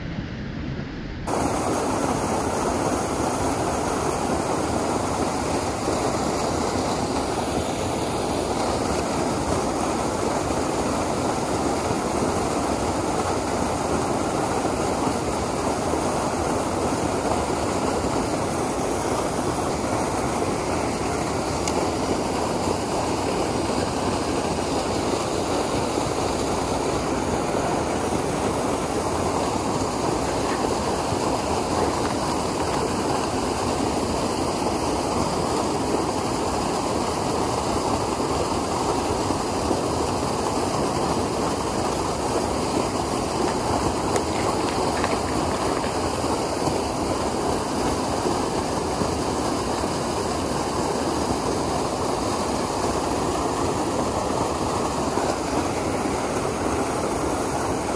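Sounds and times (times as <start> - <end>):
waterfall rushing: 1.3 - 57.9.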